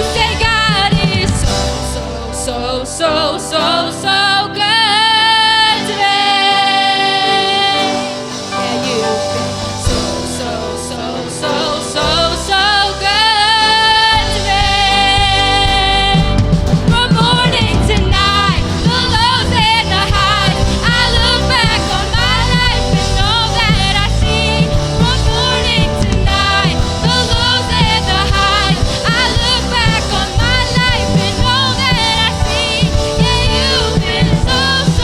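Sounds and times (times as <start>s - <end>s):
backing band: 0.0s - 35.0s
gospel singing: 0.0s - 35.0s.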